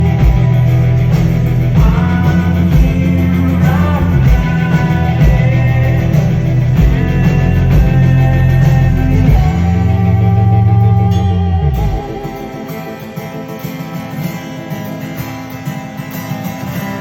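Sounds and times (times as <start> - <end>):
bass guitar: 0.0 - 15.5
drums: 0.0 - 17.0
electric guitars: 0.0 - 17.0.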